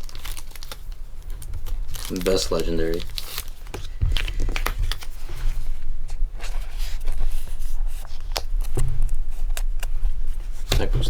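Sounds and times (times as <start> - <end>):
trading cards rustling and clicking: 0.0 - 11.0.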